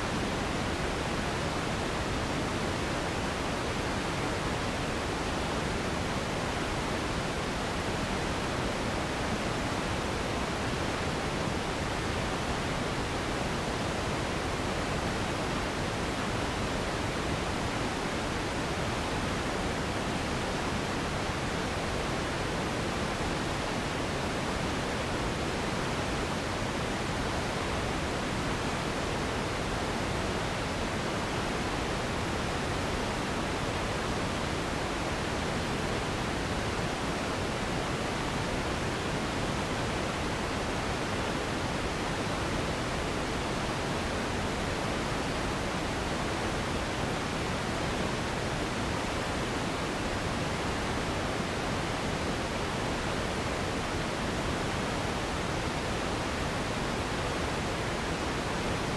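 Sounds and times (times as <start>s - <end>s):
steady hiss noise: 0.0s - 58.9s.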